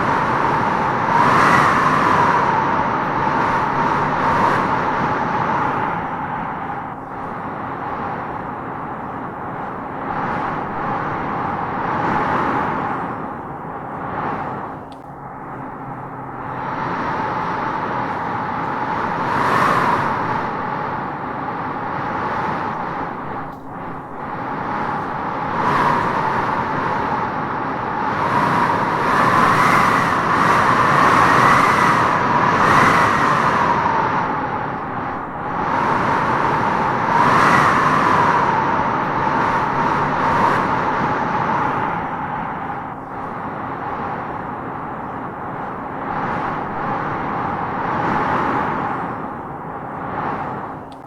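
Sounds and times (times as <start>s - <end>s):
strong wind howling through trees: 0.0s - 51.0s.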